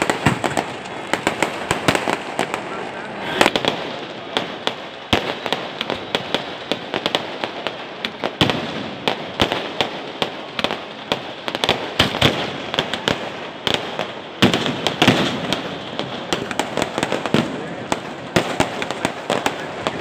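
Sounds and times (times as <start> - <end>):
fireworks and firecrackers banging: 0.0 - 20.0.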